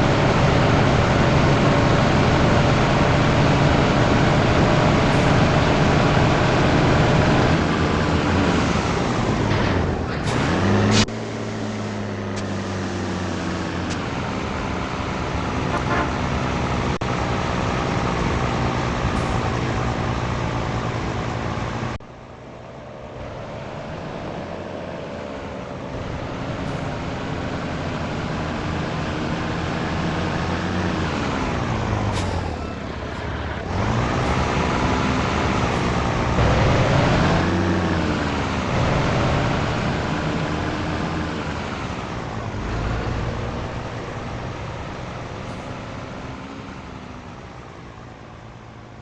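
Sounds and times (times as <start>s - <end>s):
heavy truck diesel engine: 0.0s - 49.0s.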